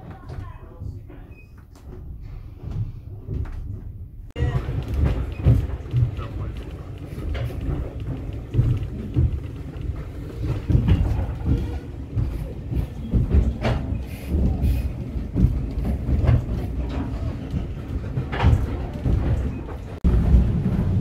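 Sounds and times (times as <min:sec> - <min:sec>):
knocks and clunks: 0:00.0 - 0:21.0
train wheels rumbling on rails: 0:01.9 - 0:21.0.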